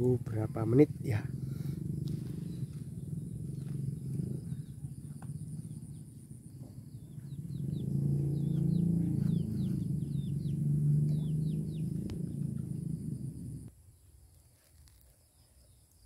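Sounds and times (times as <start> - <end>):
low steady rumble: 0.0 - 13.7
small birds chirping: 0.0 - 13.7.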